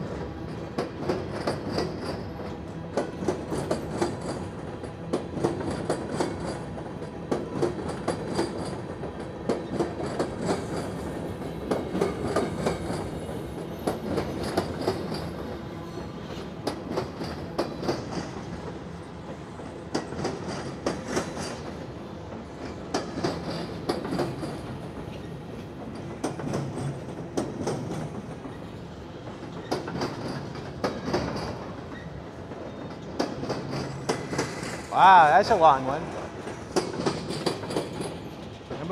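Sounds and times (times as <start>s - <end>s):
freight train rumble: 0.0s - 38.9s
train wheels clacking over rail joints: 0.0s - 38.9s.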